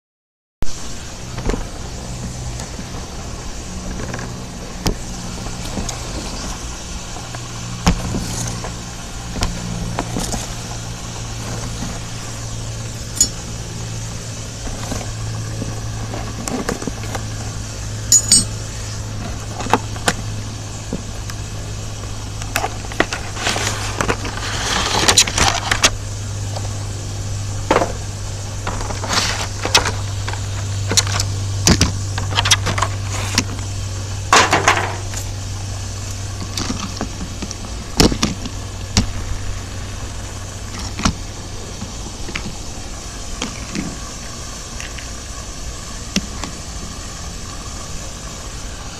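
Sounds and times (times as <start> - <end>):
low hum: 0.6 - 48.9.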